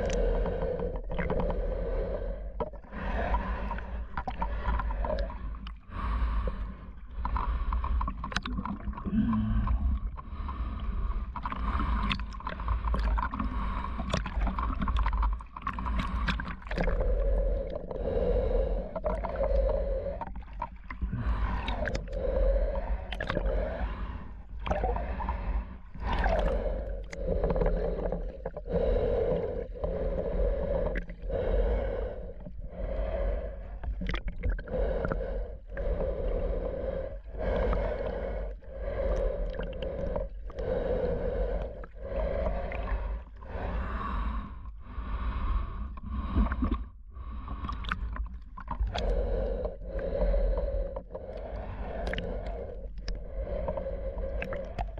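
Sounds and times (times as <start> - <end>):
breathing through snorkel mask: 0.0 - 8.2, 9.0 - 54.9
low water rumble: 0.0 - 54.9.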